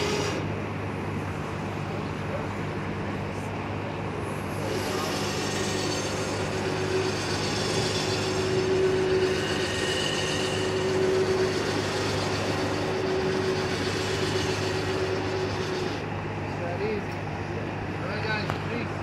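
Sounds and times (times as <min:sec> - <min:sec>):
electric winch droning: 0:00.0 - 0:18.4.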